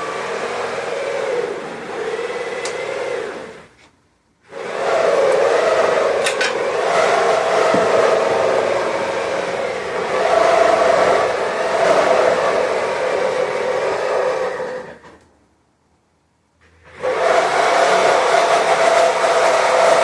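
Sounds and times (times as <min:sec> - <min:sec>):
loud whirring motor: 0:00.0 - 0:03.7, 0:04.5 - 0:15.2, 0:16.9 - 0:20.0.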